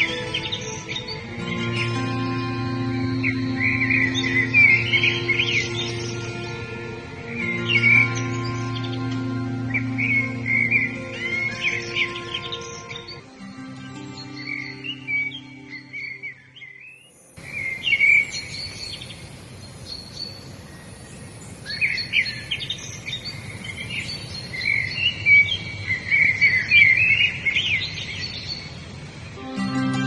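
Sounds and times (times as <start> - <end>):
songbirds chirping and singing: 0.0 - 29.4
steady outdoor hiss: 0.0 - 30.0.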